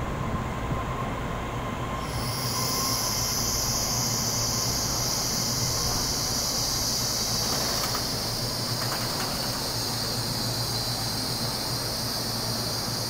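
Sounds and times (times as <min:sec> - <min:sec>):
electric train pulling in: 0:00.0 - 0:13.0.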